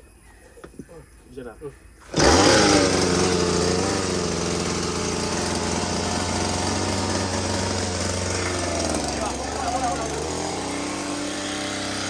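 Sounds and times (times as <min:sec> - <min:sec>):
small boat engine running: 0:02.0 - 0:12.0.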